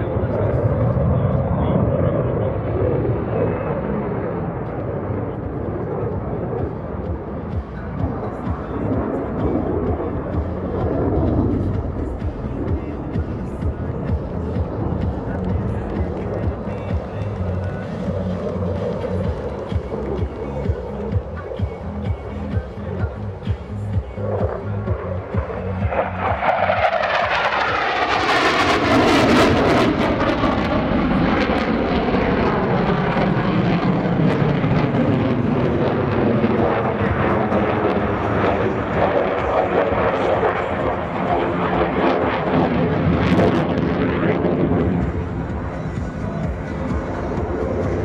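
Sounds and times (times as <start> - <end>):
jet engine roar: 0.0 - 23.4, 24.0 - 48.0.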